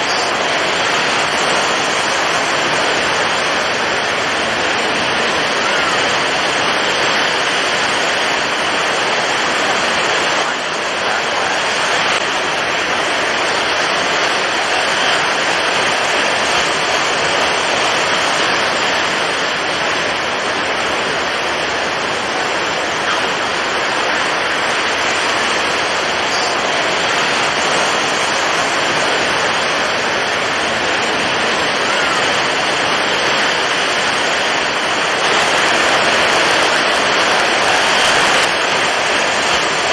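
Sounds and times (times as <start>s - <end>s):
heavy waves: 0.0s - 39.9s
strong wind: 0.0s - 39.9s.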